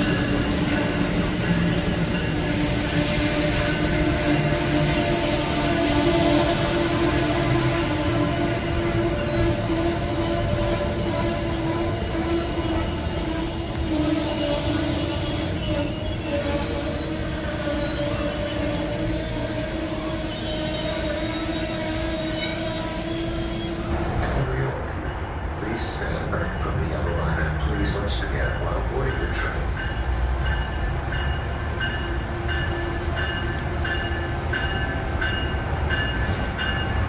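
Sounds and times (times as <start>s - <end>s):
train rumbling by: 0.0s - 37.0s.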